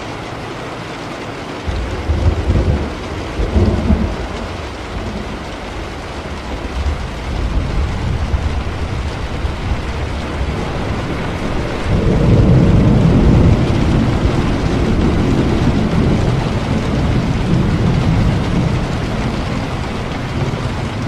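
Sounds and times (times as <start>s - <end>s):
heavy rain: 0.0s - 21.0s
thunder rumbling: 1.6s - 21.0s.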